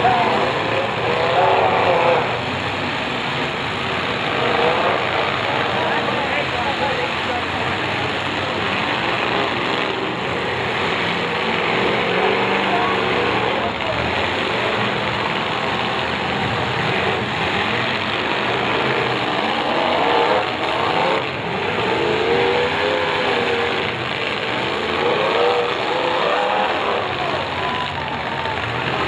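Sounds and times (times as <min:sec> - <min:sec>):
car engines revving: 0:00.0 - 0:29.0
cars ramming each other: 0:00.0 - 0:29.0.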